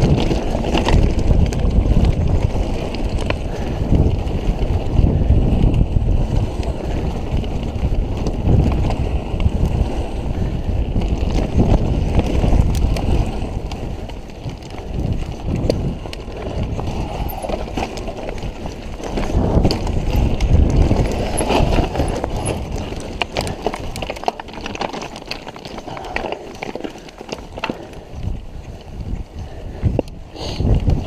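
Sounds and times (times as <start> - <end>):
tyres crunching on loose stones: 0.0 - 29.7
mountain bike rattling: 0.0 - 31.0
wind on microphone: 0.0 - 31.0.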